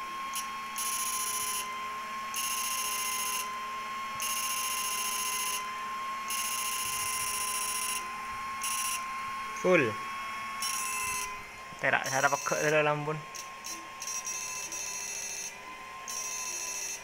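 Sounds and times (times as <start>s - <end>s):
inverter high-pitched whine: 0.0s - 17.0s.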